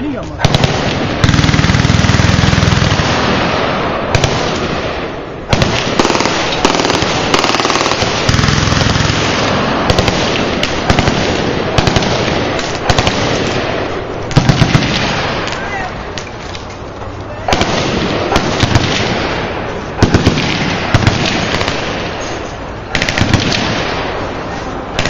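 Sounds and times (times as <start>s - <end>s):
machine guns firing: 0.4s - 15.6s, 17.5s - 24.4s
single gunshots: 0.4s - 16.2s, 17.4s - 22.3s, 22.9s - 24.3s.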